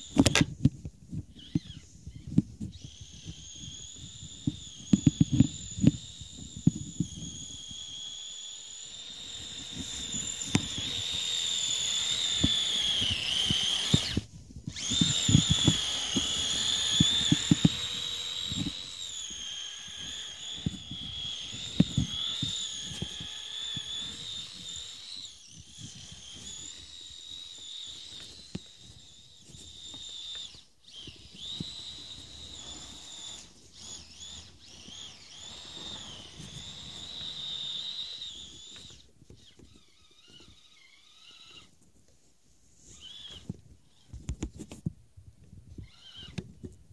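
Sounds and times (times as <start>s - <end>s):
electric motor whine: 1.3s - 41.7s, 42.9s - 44.1s.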